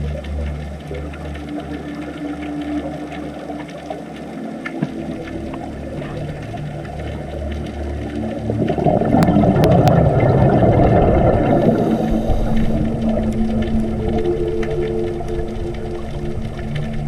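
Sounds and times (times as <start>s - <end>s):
faint hums: 0.0s - 17.0s
underwater rumbling: 0.0s - 17.0s.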